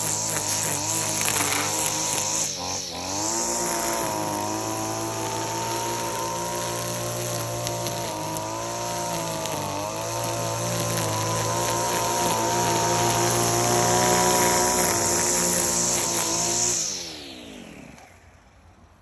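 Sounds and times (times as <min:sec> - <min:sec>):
string trimmer motor running: 0:00.0 - 0:18.8.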